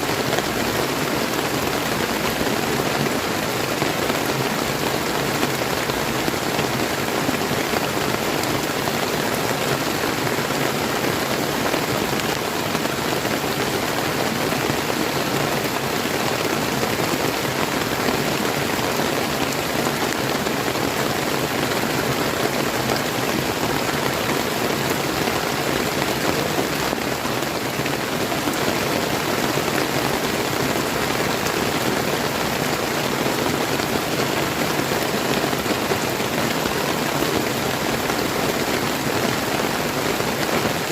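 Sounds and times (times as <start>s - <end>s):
river water flowing: 0.0s - 40.9s
steady rain falling: 0.0s - 40.9s.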